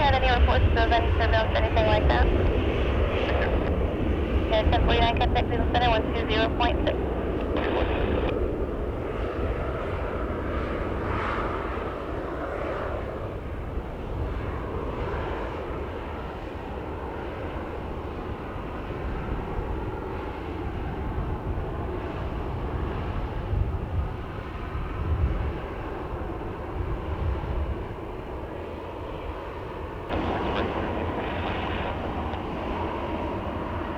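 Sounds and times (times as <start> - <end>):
airplane engine rumble: 0.0 - 33.9
wind buffeting microphone: 0.0 - 33.9.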